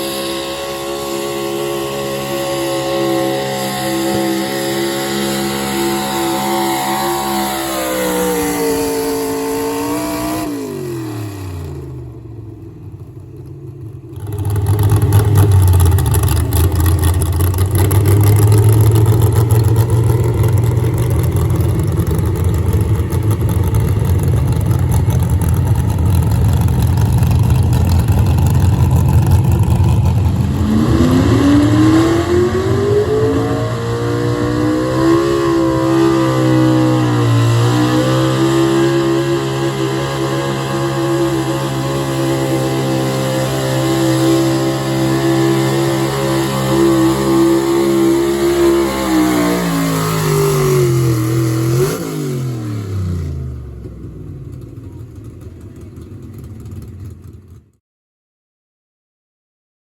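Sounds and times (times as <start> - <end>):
truck engine revving under load: 0.0 - 12.8, 14.1 - 54.2.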